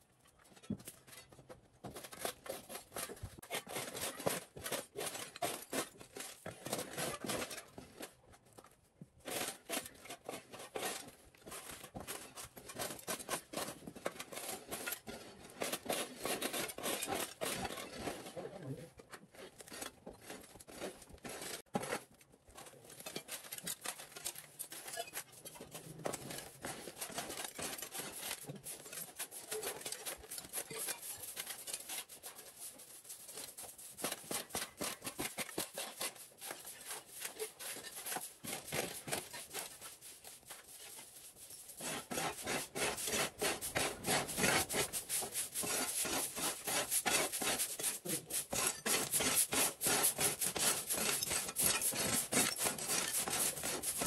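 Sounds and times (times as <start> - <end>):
hand tool scraping rough surface: 0.6 - 8.3, 9.1 - 54.0.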